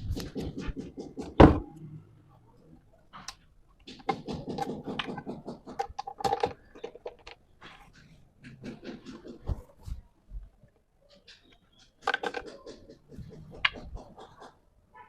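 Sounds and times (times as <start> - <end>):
wooden parts rubbing: 0.0 - 1.8, 3.0 - 14.8
wooden parts clicking and knocking: 0.0 - 2.0, 2.9 - 14.8.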